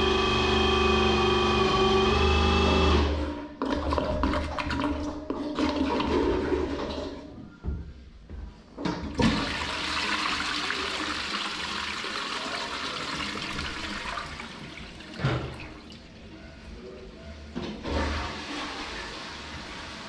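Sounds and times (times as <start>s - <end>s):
toilet flushing: 0.0s - 7.4s, 8.8s - 16.3s, 17.6s - 20.0s.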